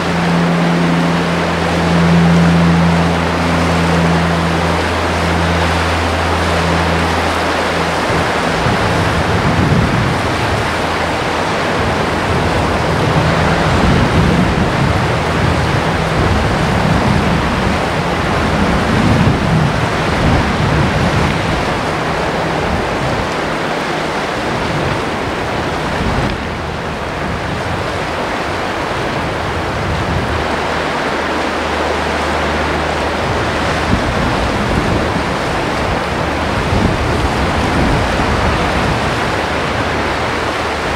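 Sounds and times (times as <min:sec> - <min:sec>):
low steady hum: 0:00.0 - 0:40.9
waves rushing: 0:00.0 - 0:40.9
wind: 0:00.0 - 0:40.9.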